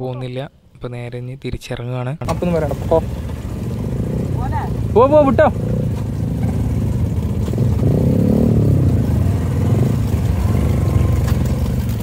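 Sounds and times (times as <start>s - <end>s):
motorcycle engine running: 2.2s - 12.0s.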